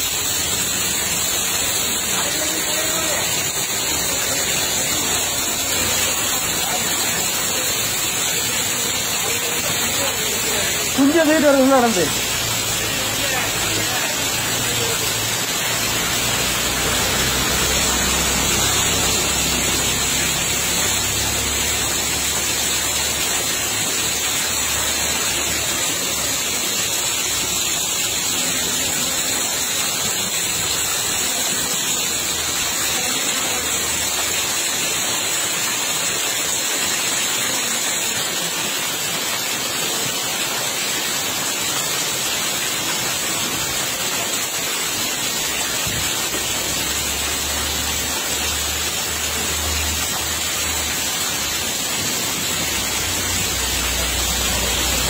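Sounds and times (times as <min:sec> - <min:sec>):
floodwater rushing: 0:00.0 - 0:55.0
heavy rain: 0:00.0 - 0:55.0.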